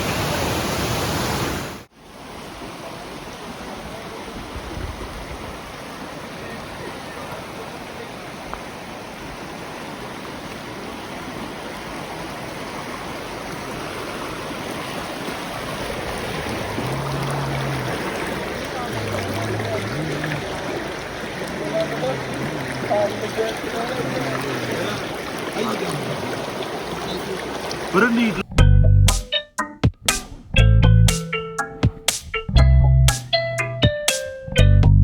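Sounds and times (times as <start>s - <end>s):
waterfall rushing water: 0.0s - 28.4s.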